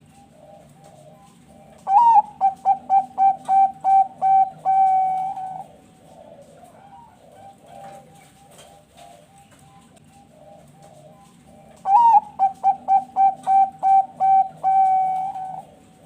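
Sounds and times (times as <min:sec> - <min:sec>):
dove cooing song: 0:00.0 - 0:16.0
faint doves cooing: 0:00.0 - 0:16.0.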